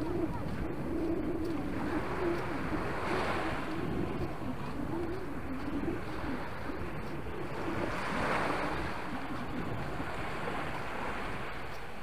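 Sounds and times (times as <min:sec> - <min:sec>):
waves washing up a sandy shore: 0:00.0 - 0:12.0.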